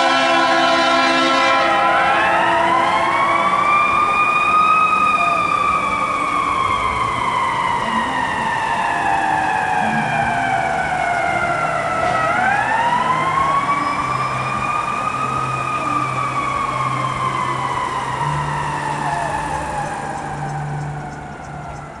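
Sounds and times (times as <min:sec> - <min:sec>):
fire truck siren wailing: 0:00.0 - 0:22.0.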